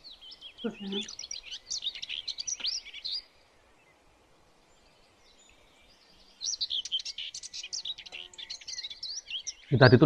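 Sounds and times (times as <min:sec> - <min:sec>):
small birds twittering: 0:00.0 - 0:10.0.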